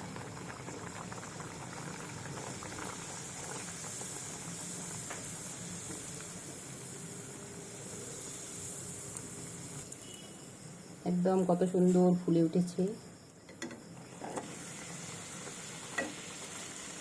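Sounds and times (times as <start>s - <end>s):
dough sizzling in hot oil: 0.0s - 17.0s.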